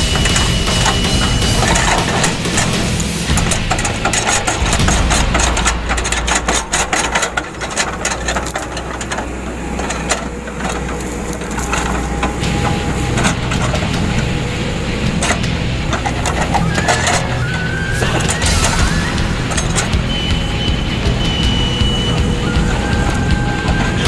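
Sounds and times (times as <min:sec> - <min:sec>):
heavy machine engine drone: 0:00.0 - 0:24.0.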